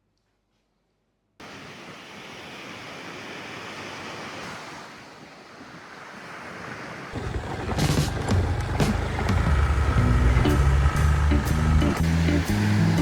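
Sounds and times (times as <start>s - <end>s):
ocean waves washing onto beach: 1.4s - 13.0s.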